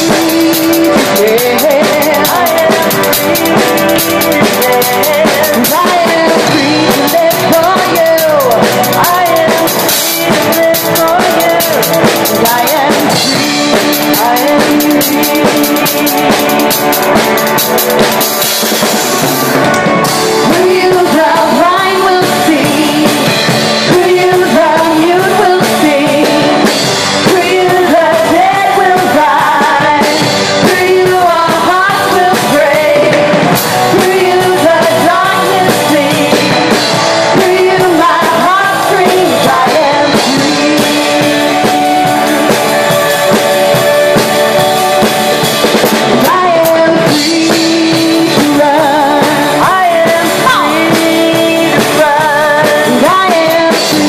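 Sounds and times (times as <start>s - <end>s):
person singing: 0.0s - 54.0s
worship band playing: 0.0s - 54.0s.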